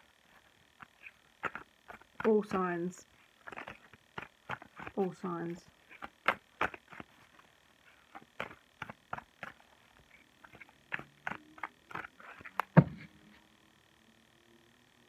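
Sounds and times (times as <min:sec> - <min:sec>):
cards being shuffled: 0:00.0 - 0:13.3.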